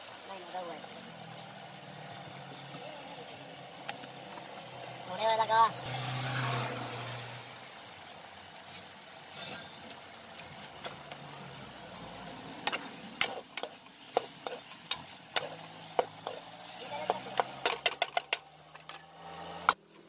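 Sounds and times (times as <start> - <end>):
gravy sizzling in a metal pan: 0.0 - 20.0.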